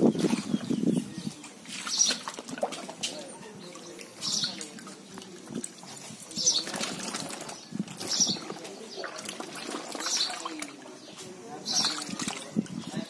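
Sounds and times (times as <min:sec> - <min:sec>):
liquid splashing in a vat: 0:00.2 - 0:13.0.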